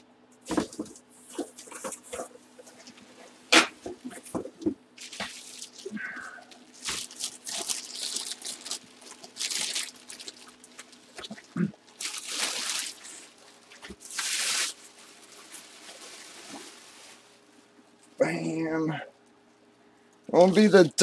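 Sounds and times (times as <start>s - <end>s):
plastic bag rustling: 0.5s - 17.8s.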